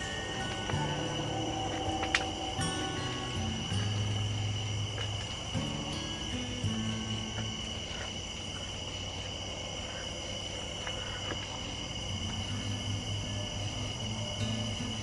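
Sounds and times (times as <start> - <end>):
crickets and insects trilling: 0.0 - 15.0
low steady hum: 0.0 - 15.0.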